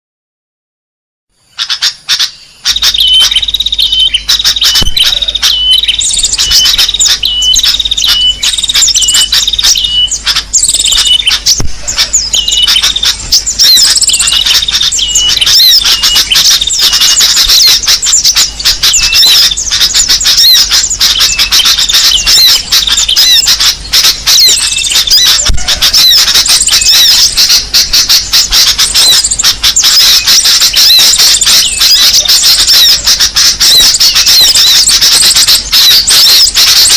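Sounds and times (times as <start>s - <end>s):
songbirds chirping and trilling: 1.3s - 36.9s.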